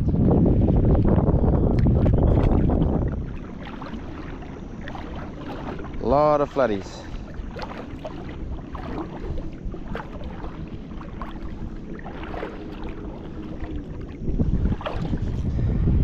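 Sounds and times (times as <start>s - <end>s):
water lapping and splashing: 0.0s - 16.0s
wind buffeting microphone: 0.0s - 16.0s.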